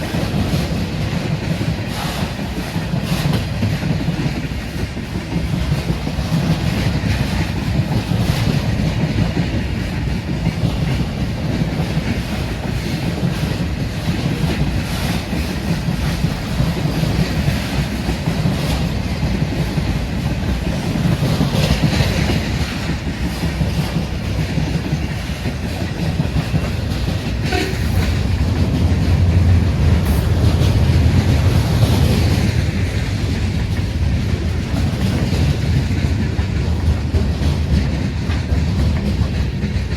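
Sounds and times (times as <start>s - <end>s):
freight train passing: 0.0s - 39.9s
wheels clicking over rail joints: 0.0s - 39.9s.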